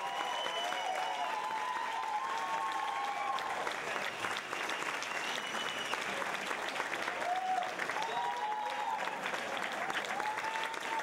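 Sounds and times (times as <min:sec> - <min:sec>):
audience whooping: 0:00.0 - 0:06.4, 0:07.0 - 0:11.0
audience clapping: 0:00.0 - 0:11.0.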